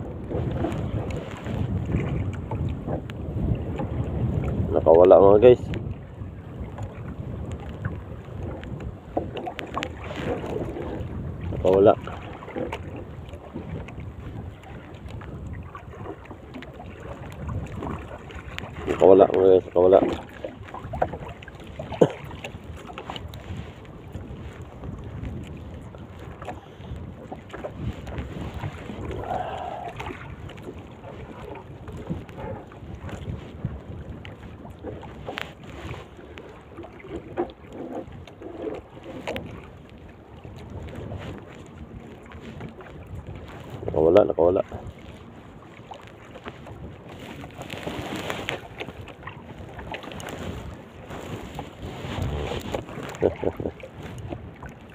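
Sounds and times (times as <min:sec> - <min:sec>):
water moving around boat: 0:00.0 - 0:54.9
wind on microphone: 0:00.0 - 0:54.9.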